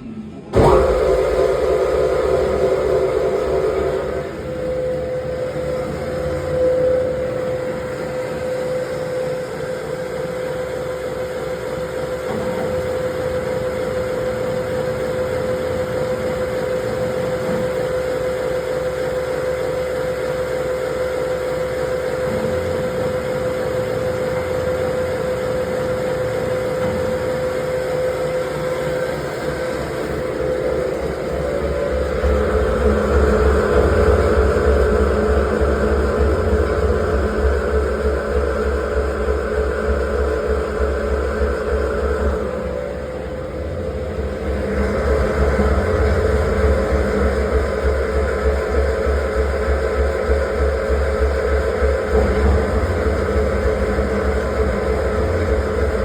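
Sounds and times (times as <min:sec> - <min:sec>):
mixer grinder humming: 0:00.0 - 0:18.6, 0:21.6 - 0:56.0.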